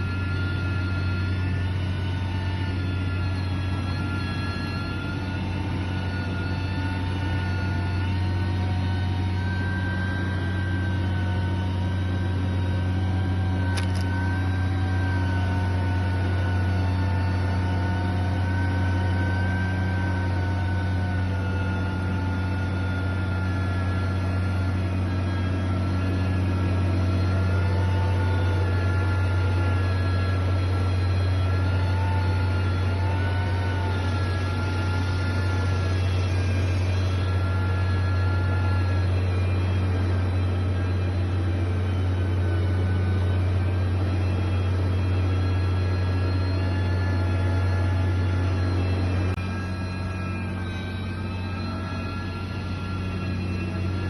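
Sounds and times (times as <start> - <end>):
heavy diesel machinery running: 0.0 - 54.0
high whine drifting in pitch: 0.0 - 54.0.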